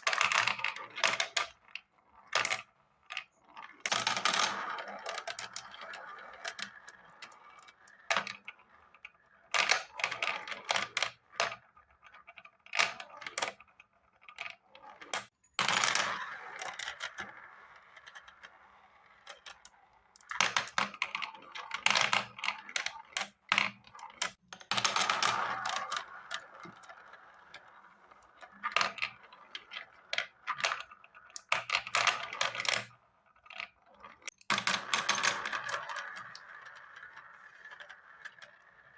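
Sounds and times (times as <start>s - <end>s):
marbles rolling and clacking: 0.0s - 38.9s.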